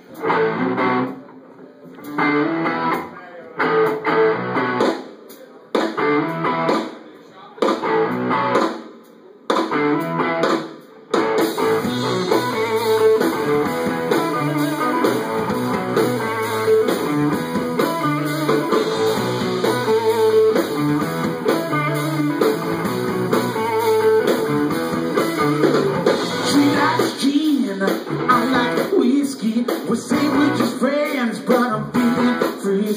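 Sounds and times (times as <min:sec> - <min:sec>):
rock band playing live: 0:00.0 - 0:01.4, 0:02.0 - 0:07.0, 0:07.6 - 0:32.9
electric guitar: 0:00.0 - 0:07.0, 0:07.6 - 0:08.8, 0:09.5 - 0:32.9.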